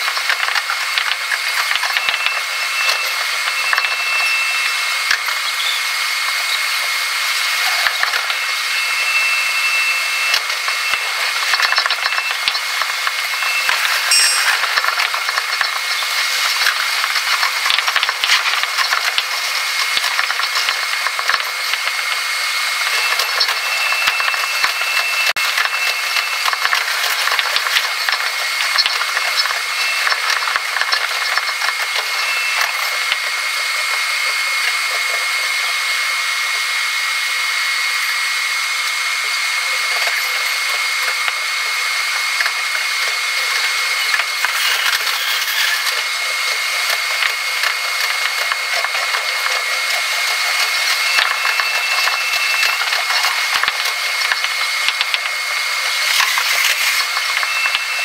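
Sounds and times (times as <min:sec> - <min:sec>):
thin whine: 0:01.1 - 0:58.0.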